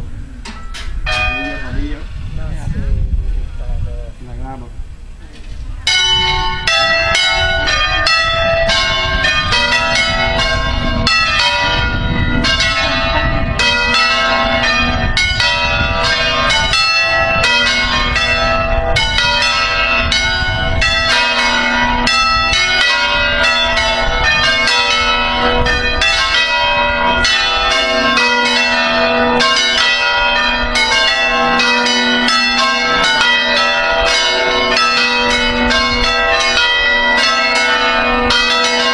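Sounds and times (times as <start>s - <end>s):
church bells pealing: 0.0s - 2.4s, 5.8s - 38.9s.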